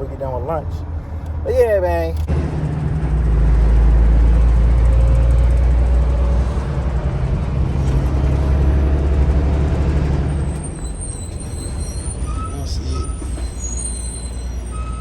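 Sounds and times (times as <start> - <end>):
heavy truck engine rumbling: 0.0 - 15.0.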